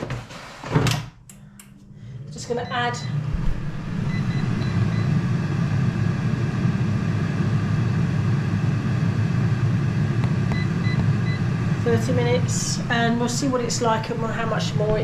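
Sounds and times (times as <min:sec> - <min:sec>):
air fryer fan humming: 0:01.0 - 0:15.0.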